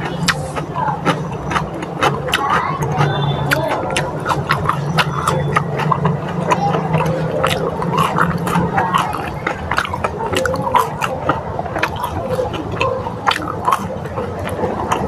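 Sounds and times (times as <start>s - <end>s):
chewing crispy fried chicken: 0.0s - 15.0s.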